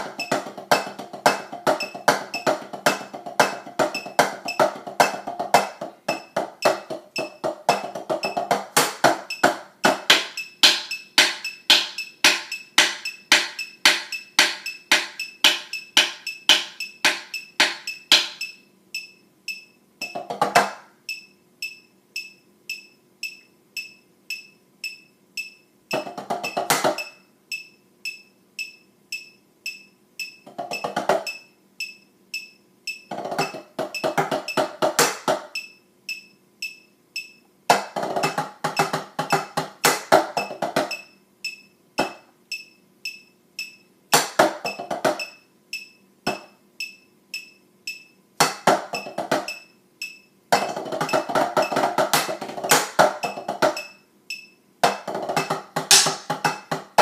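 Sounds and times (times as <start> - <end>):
metronome click: 0.0 - 5.2, 6.1 - 20.2, 21.1 - 37.5, 40.4 - 43.9, 44.6 - 48.2, 48.9 - 50.3, 53.2 - 54.6
drumsticks on practice pads: 0.0 - 57.0.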